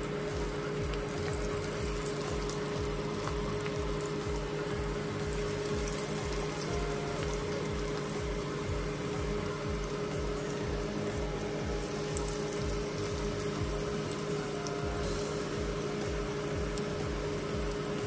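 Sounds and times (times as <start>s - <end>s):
background music with low beat: 0.0s - 18.0s
chicken sizzling in hot oil: 0.0s - 18.0s.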